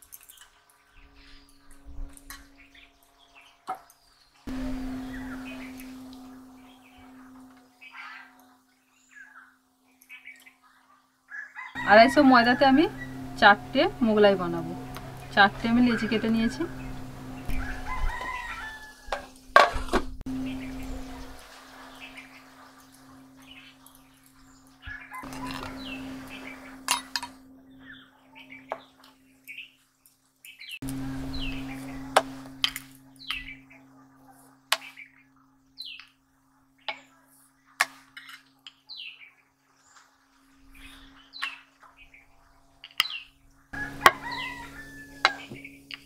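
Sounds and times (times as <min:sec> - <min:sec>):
birds chirping: 0:00.0 - 0:46.0
low steady hum: 0:00.0 - 0:46.0.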